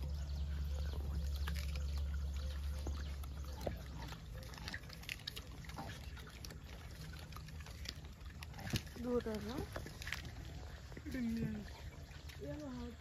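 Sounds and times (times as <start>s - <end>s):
monkeys chewing apples: 0.0s - 13.0s.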